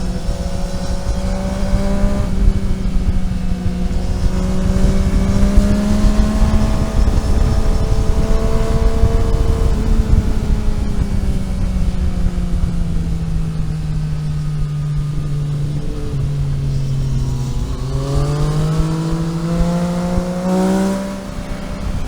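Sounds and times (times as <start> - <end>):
car engine running: 0.0 - 22.0
tyre and road noise: 0.0 - 22.0.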